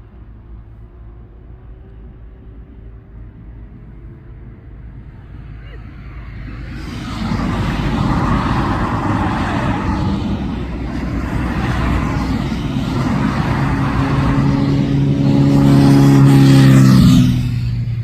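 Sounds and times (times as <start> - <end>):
high jet engine whine: 3.4 - 18.0
jet airliner passing overhead: 3.4 - 18.0.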